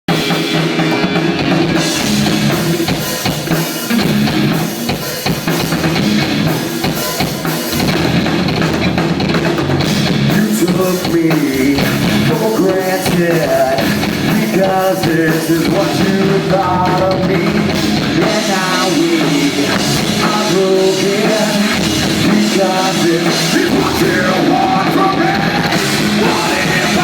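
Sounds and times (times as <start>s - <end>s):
rock music with drums: 0.1s - 27.0s.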